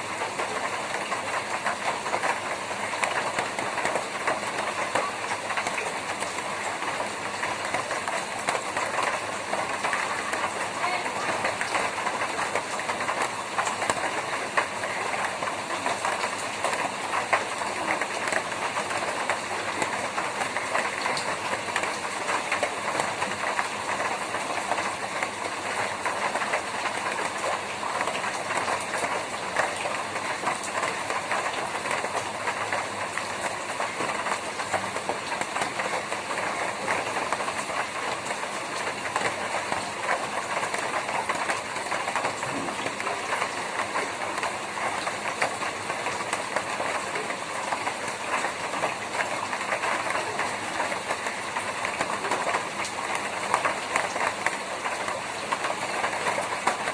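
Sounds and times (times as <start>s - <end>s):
rain on a tin roof: 0.0s - 56.9s.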